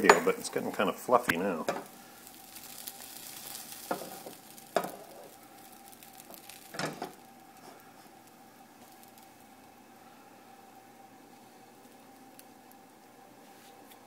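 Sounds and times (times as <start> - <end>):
omelet sizzling in a pan: 0.0 - 14.0
thin steady hum: 0.0 - 14.0.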